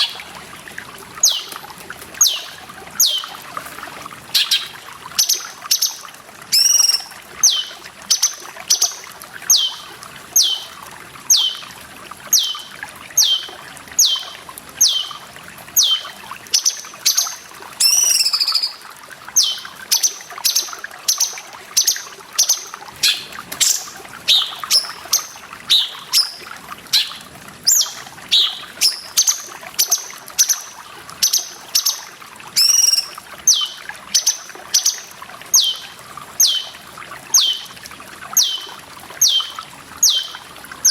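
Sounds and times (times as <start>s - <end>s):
trickling water: 0.0s - 40.9s.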